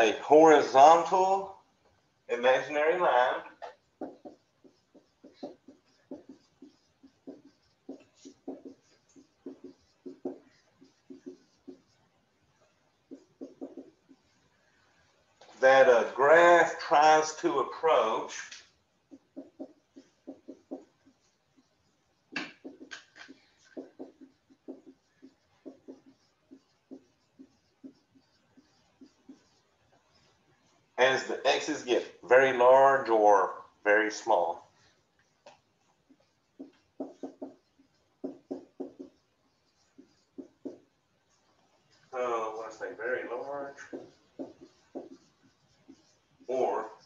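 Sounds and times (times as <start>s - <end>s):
marker writing on whiteboard: 0.0s - 47.0s.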